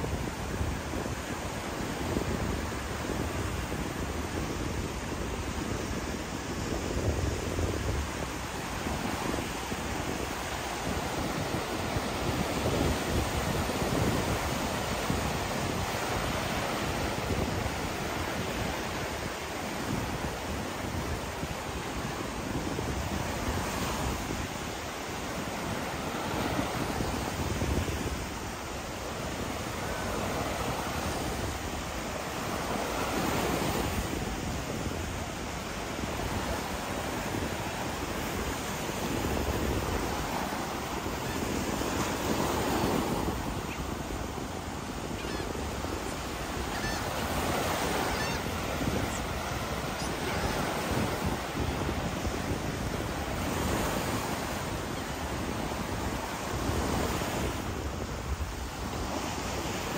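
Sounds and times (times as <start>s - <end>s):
surf breaking on beach: 0.0s - 59.9s.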